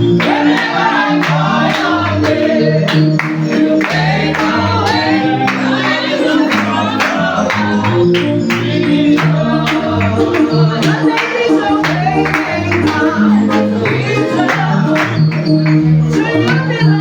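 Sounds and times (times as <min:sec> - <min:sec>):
group singing praise music: 0:00.0 - 0:17.0.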